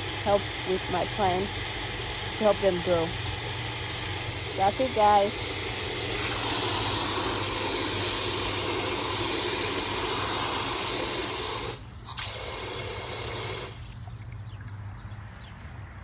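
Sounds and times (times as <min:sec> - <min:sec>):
water running: 0:00.0 - 0:14.8.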